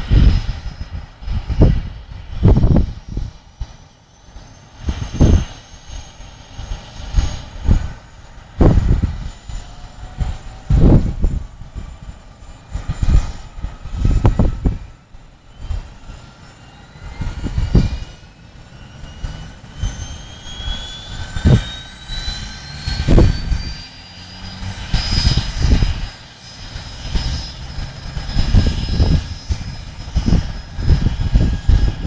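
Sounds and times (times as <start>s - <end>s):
uneven low rumble: 0.0s - 16.3s, 16.9s - 32.0s
helicopter turbine whine: 0.0s - 32.0s.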